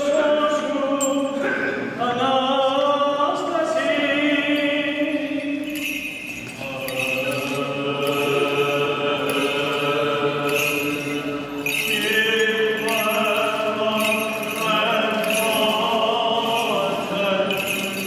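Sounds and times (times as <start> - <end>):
voices singing a slow chant: 0.0 - 18.0.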